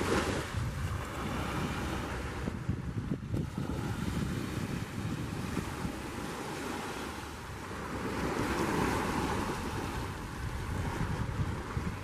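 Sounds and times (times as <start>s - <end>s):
small waves breaking on beach: 0.0s - 12.0s
wind buffeting microphone: 0.0s - 12.0s.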